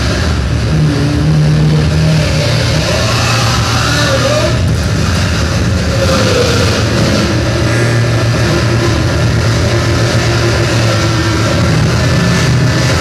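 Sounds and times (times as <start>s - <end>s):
distorted noise wall: 0.0s - 13.0s
low drone: 0.0s - 13.0s.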